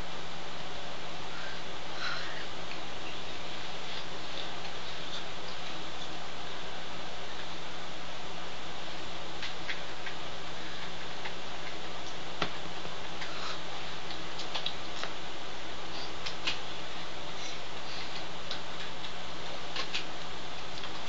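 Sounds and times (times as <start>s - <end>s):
low electrical hum: 0.0s - 21.0s
recording hiss: 0.0s - 21.0s.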